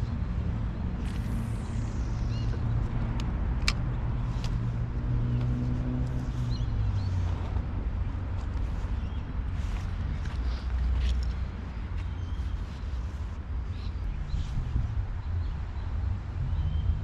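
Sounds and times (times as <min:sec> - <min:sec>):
engine rumbling and humming: 0:00.0 - 0:17.0.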